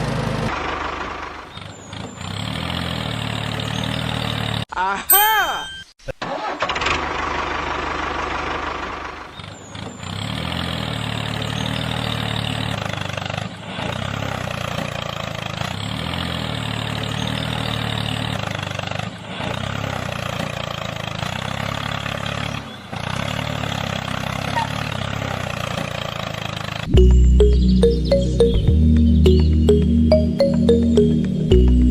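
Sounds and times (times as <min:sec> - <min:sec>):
tractor engine running: 0:00.0 - 0:04.7, 0:06.3 - 0:31.9.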